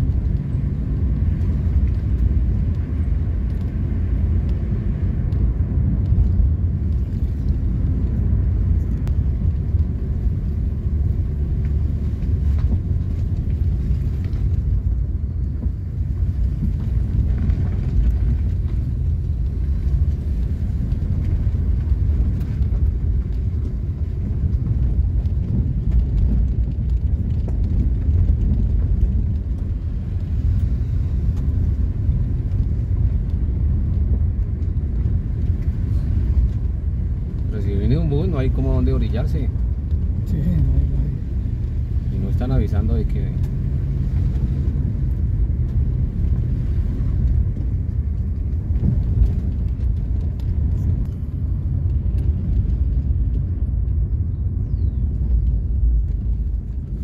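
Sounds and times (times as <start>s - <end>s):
vehicle rumbling on dirt road: 0.0s - 57.0s.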